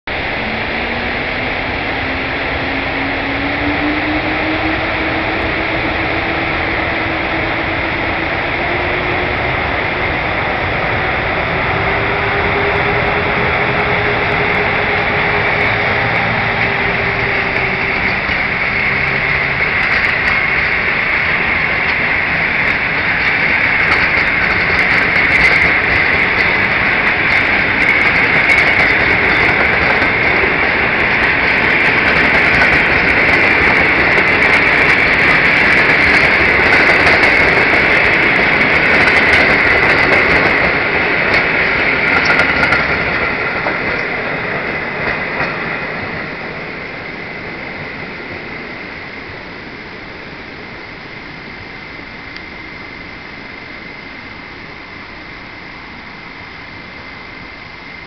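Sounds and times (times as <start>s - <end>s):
electric locomotive whine: 0.0s - 58.0s
train wheels clicking: 0.1s - 48.8s
train wheel squeal: 0.4s - 48.1s.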